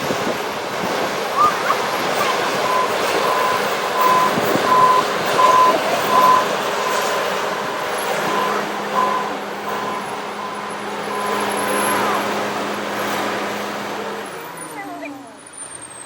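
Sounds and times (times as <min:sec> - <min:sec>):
engine running: 0:00.0 - 0:16.0
low engine drone: 0:00.0 - 0:16.0
reversing alarm beeping: 0:01.3 - 0:15.8.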